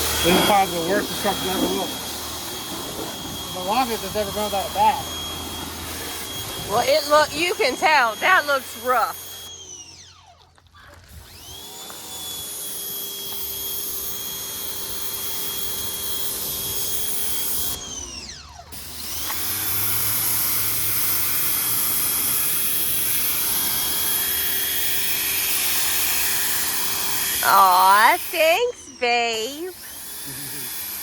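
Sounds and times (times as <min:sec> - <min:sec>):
pressure washer motor whining: 0:00.0 - 0:31.0.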